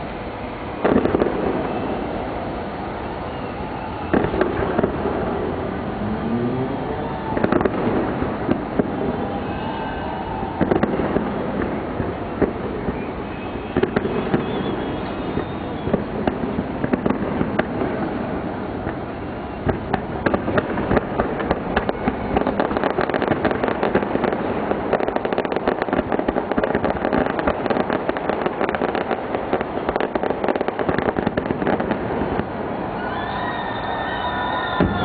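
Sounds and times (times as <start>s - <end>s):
fireworks cracking and banging: 0.0s - 35.0s.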